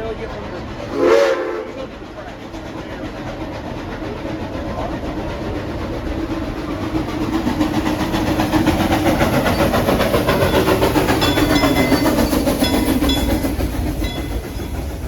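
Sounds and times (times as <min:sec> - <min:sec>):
steam train rumbling and rattling: 0:00.0 - 0:15.0.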